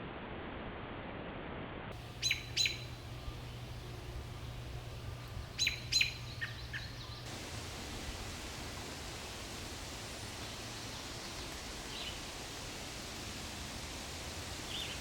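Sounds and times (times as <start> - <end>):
background hiss: 2.0 - 15.0
low steady hum: 2.0 - 15.0.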